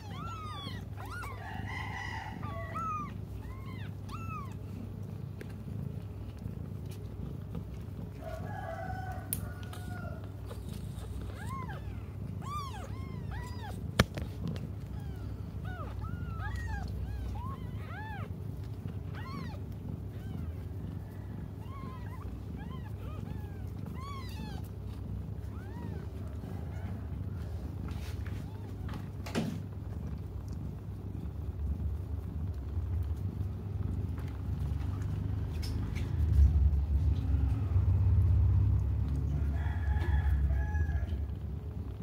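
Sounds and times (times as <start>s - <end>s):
newborn kittens mewing: 0.0s - 42.0s.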